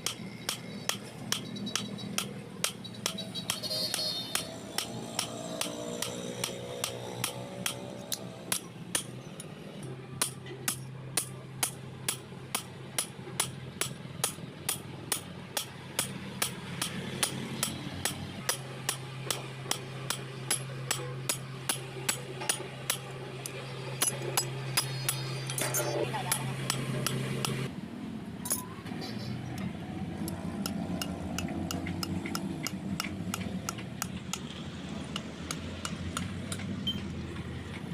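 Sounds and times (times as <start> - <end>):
hammer striking metal on anvil: 0.0 - 9.2, 10.2 - 27.6, 30.6 - 36.7.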